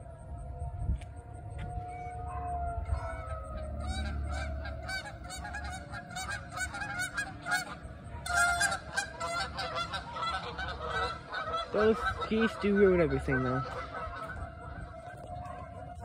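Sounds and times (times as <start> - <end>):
warning siren: 0.0 - 16.0
geese honking: 1.6 - 16.0.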